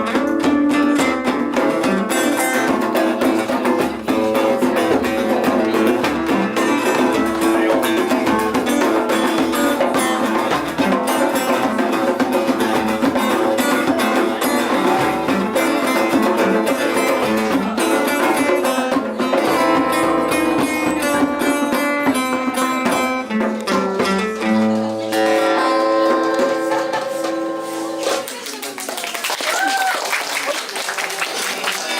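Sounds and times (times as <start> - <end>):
guitar playing: 0.0 - 28.2.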